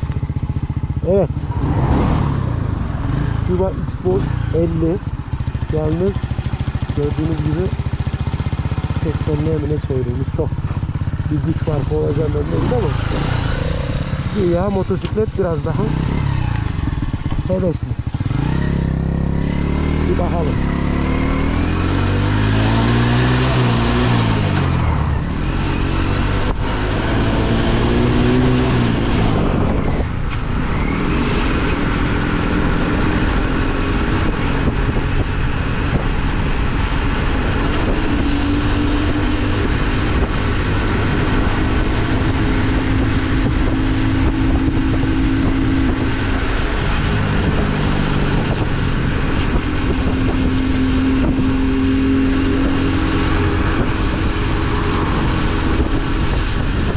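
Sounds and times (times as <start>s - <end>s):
wind rushing over microphone: 0.0s - 56.9s
small motorcycle engine revving: 0.1s - 56.9s.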